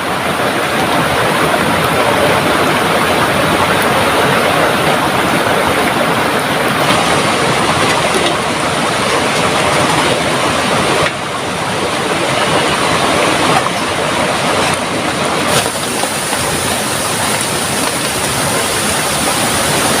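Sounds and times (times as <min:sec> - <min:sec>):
heavy rain downpour: 0:00.0 - 0:20.0
rushing river water: 0:00.0 - 0:20.0.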